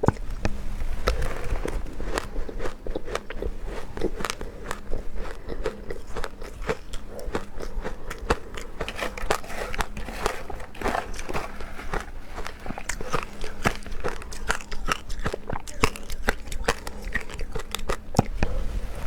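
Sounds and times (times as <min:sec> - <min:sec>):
ice crunching while chewing: 0:00.0 - 0:19.0.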